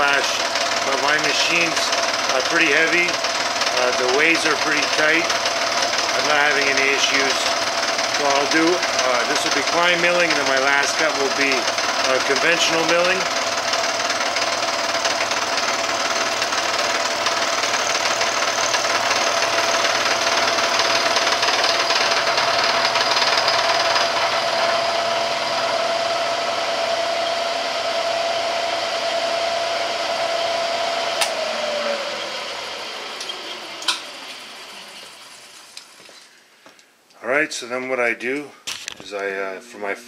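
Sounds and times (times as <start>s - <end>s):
milling machine whirring: 0.0s - 36.4s.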